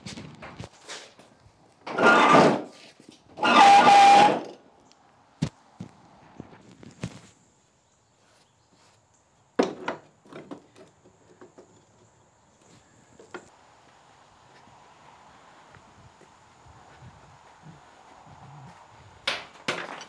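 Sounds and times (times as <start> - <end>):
soft outdoor hush: 0.0 - 20.0.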